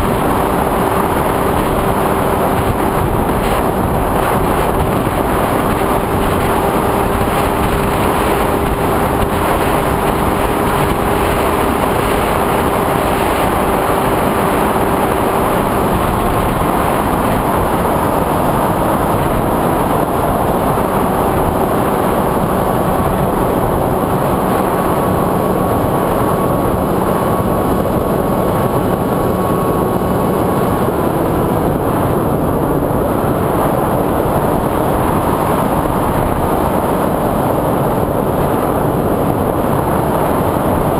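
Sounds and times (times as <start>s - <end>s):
drone propellers rushing: 0.0s - 40.9s.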